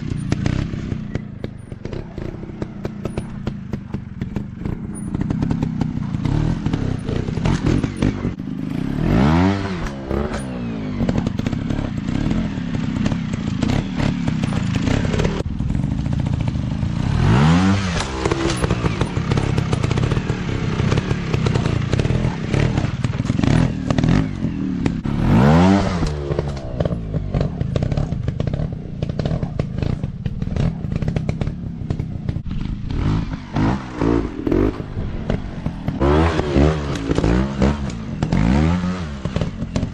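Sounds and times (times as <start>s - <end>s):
off-road motorcycle engines revving: 0.0s - 39.9s.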